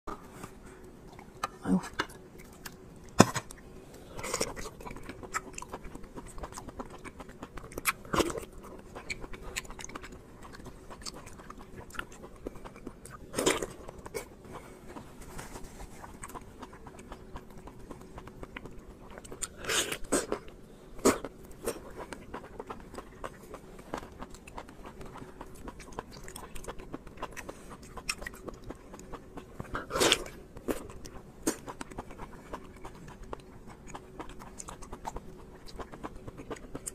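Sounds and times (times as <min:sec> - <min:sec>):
person chewing wet food: 0:00.1 - 0:36.9.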